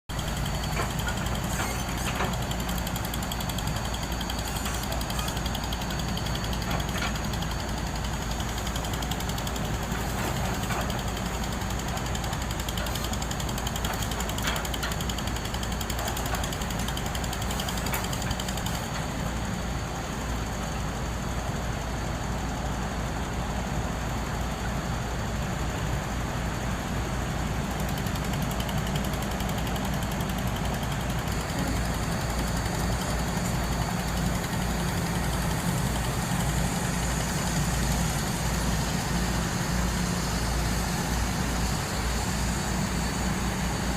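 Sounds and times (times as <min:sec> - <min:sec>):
diesel engines of heavy machinery: 0:00.1 - 0:43.9.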